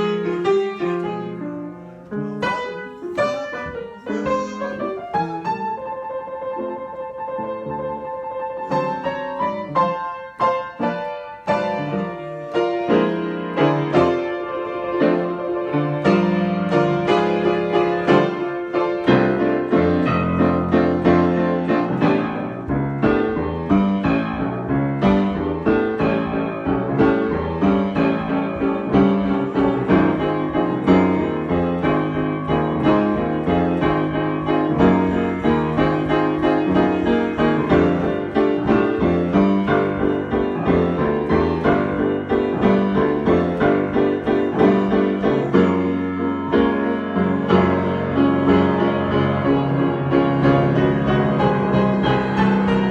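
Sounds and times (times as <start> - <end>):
piano improvisation: 0.0 - 52.9.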